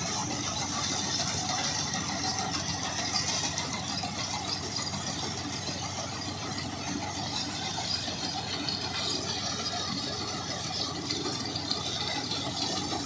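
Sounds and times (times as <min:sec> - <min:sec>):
straw chopper and blower: 0:00.0 - 0:13.0
tractor engine under load: 0:00.0 - 0:13.0.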